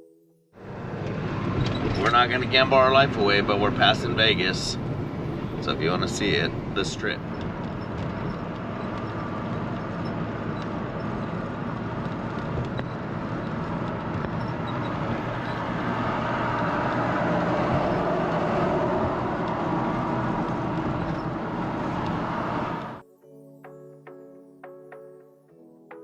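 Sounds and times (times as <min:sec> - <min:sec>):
vehicle road and engine noise: 0:00.6 - 0:23.0.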